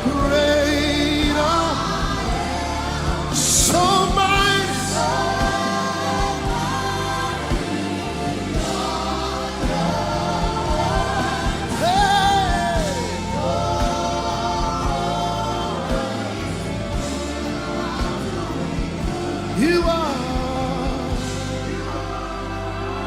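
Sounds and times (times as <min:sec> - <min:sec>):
choir singing long held notes: 0:00.0 - 0:23.0
instrumental accompaniment: 0:00.0 - 0:23.0.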